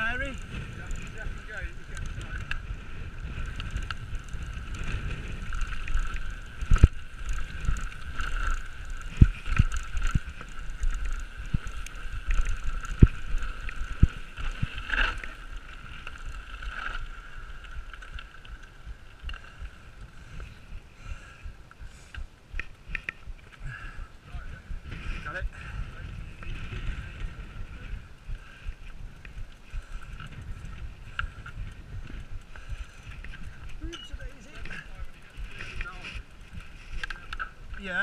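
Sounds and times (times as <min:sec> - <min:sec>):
wind buffeting microphone: 0:00.0 - 0:16.6, 0:17.2 - 0:38.0
mountain bike rolling on dirt: 0:00.0 - 0:38.0.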